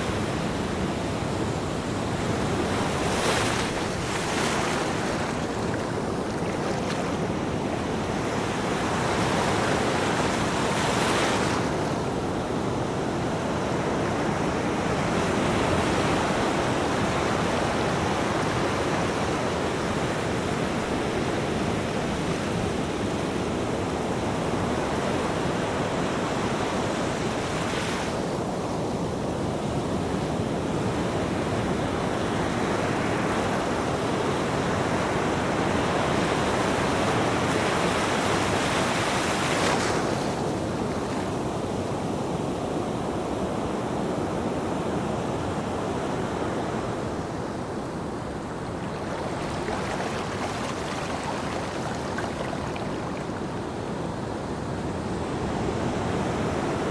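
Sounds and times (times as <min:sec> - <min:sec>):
ocean waves on beach: 0:00.0 - 0:56.9.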